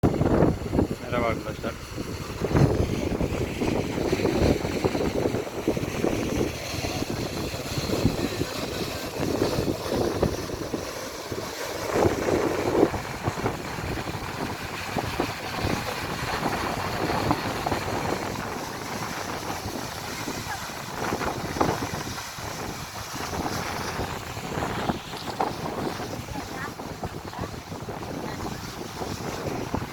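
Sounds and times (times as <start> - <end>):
wind gusting on microphone: 0.0 - 29.9
waterfall rushing: 0.2 - 29.9.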